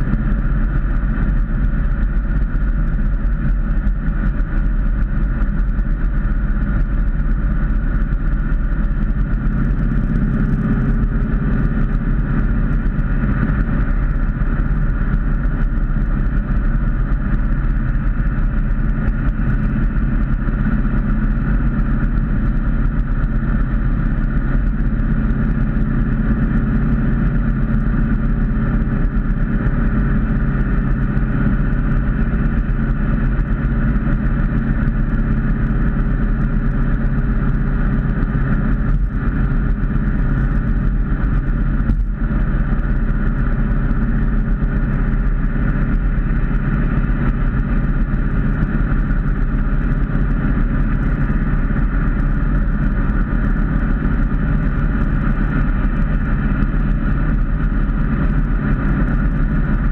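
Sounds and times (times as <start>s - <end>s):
car engine drone: 0.0s - 59.9s.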